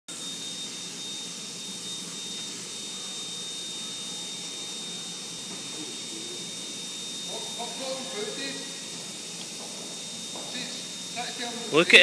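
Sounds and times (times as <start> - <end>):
high-pitched whine: 0.1 - 12.0
machine hiss: 0.1 - 12.0.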